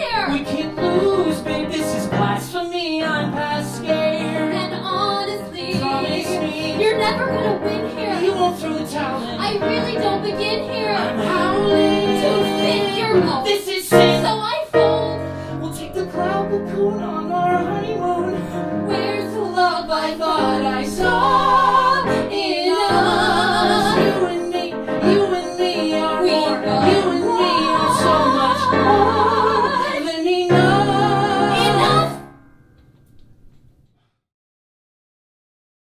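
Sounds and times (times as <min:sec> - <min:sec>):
woman singing with vibrato: 0:00.0 - 0:32.3
piano accompaniment: 0:00.0 - 0:33.8.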